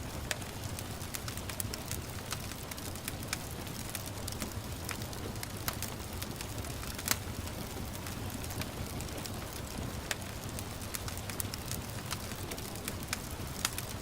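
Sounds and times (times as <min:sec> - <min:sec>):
gentle rain hiss: 0:00.0 - 0:14.0
wood fire crackling and popping: 0:00.0 - 0:14.0.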